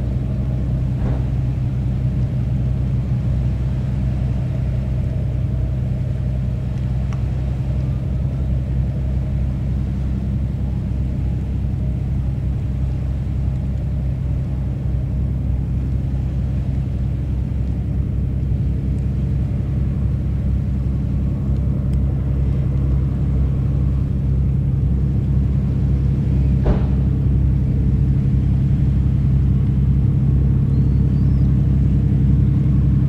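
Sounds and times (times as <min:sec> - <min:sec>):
ferry engine drone: 0:00.0 - 0:33.0.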